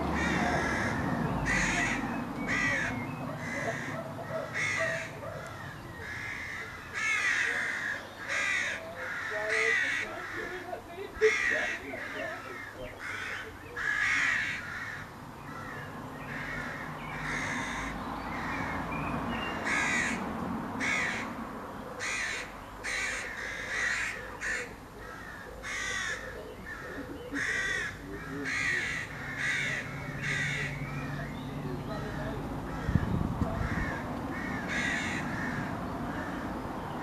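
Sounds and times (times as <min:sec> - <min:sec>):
crows cawing: 0:00.0 - 0:37.0.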